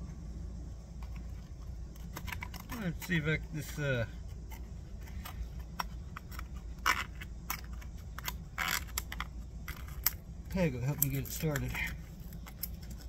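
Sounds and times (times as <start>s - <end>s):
metal tools clicking and scraping: 2.0s - 13.0s.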